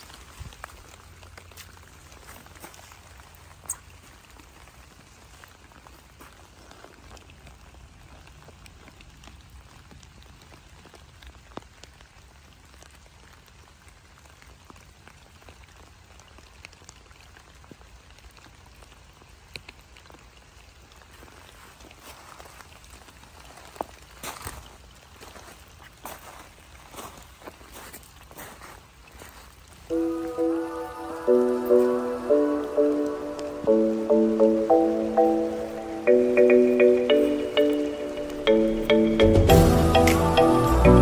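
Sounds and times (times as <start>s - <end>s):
light rain pattering: 0.0s - 41.0s
raindrops ticking on surfaces: 0.0s - 41.0s.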